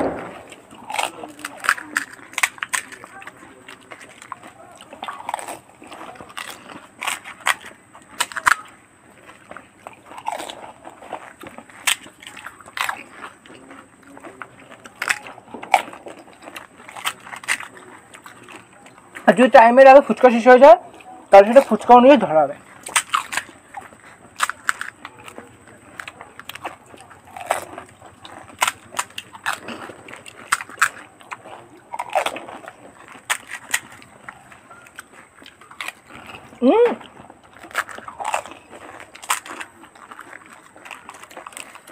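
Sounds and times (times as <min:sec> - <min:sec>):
chewing: 0:00.0 - 0:41.9
crisp shells cracking and crunching: 0:00.0 - 0:41.9.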